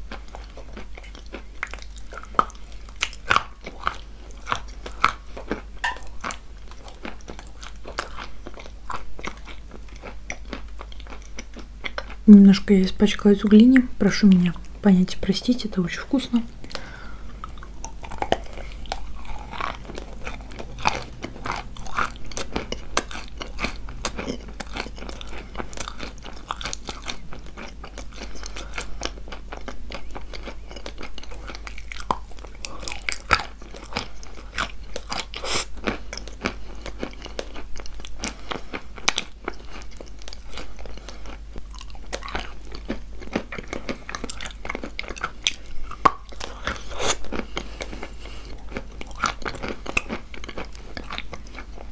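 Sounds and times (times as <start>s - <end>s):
chalk crunching and chewing: 0.0s - 12.3s, 16.6s - 51.9s.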